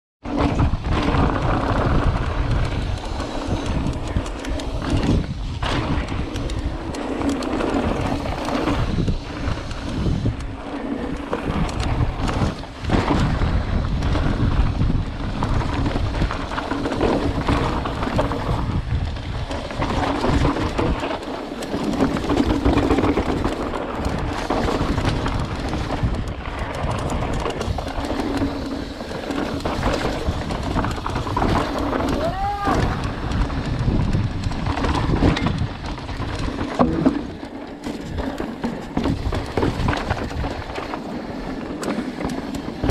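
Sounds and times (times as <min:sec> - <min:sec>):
bike knocking and rattling: 0:00.2 - 0:42.9
bike tyres rolling on dirt: 0:00.2 - 0:42.9
wind buffeting microphone: 0:00.3 - 0:42.9.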